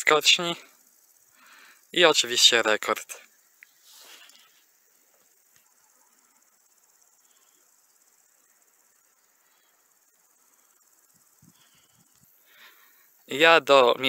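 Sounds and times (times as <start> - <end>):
insects chirring in grass: 0.0 - 14.0.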